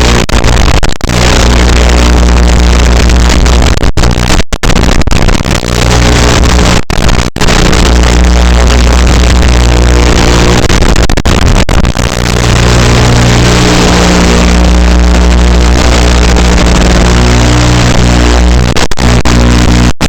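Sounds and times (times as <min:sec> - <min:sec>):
loud music with heavy bass: 0:00.0 - 0:20.0.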